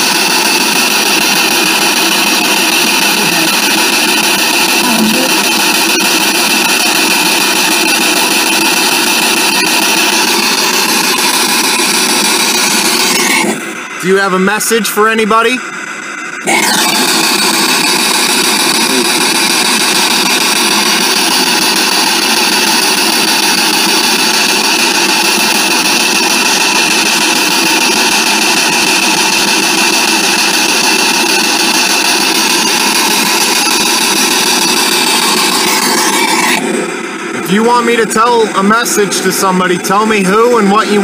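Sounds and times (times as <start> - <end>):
radio static rush: 0.0 - 41.0.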